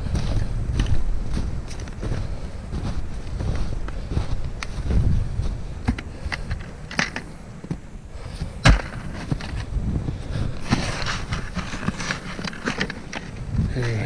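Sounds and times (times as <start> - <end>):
footsteps through dry brush: 0.0 - 14.0.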